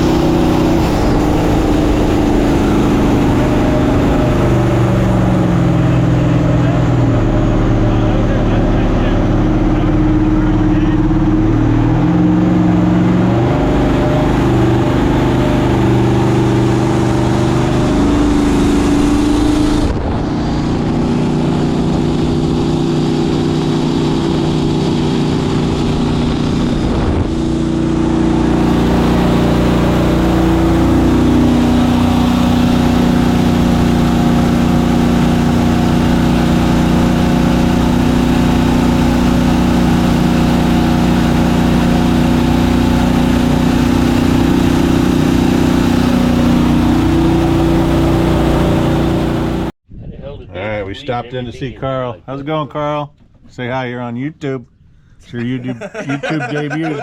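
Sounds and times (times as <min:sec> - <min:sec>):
jet boat engine droning: 0:00.0 - 0:49.8.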